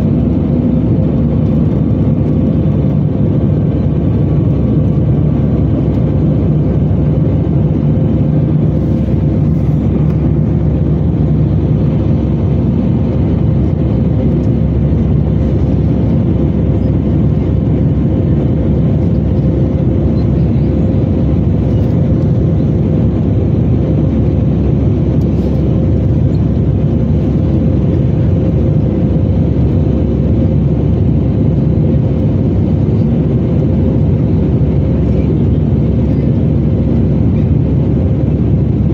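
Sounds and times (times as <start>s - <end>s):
airplane cabin roar: 0.0s - 38.9s
faint constant hum: 0.0s - 38.9s.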